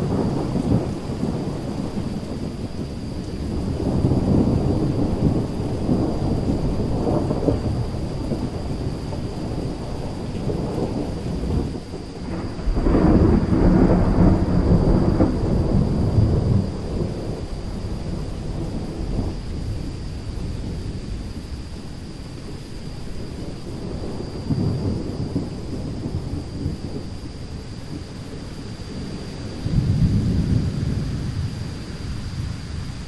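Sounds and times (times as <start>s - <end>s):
steady rain: 0.0s - 33.0s
thunder rumbling: 0.0s - 33.0s.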